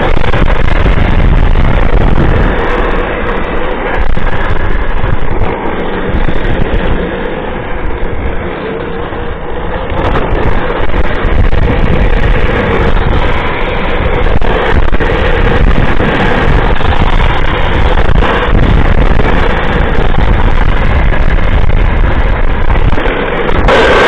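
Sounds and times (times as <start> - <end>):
wheels rolling on asphalt: 0.0 - 24.0
wind rushing over microphone: 0.0 - 24.0.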